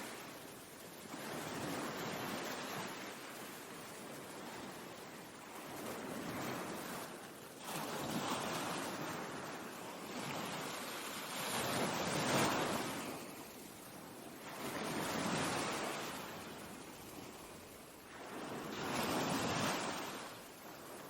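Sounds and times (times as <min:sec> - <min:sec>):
waves breaking and washing up: 0:00.0 - 0:21.0.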